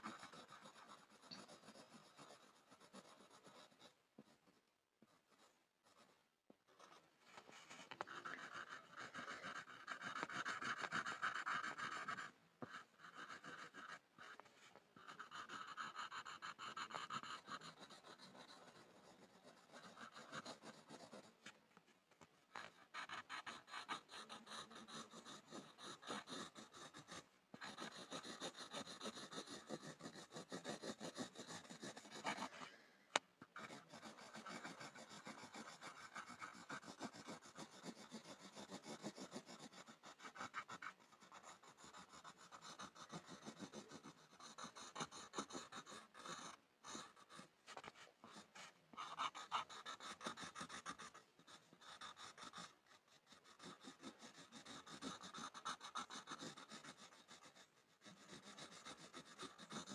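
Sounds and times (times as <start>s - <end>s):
pencil scribbling on board: 0.0s - 21.8s, 22.5s - 32.8s, 33.4s - 59.9s.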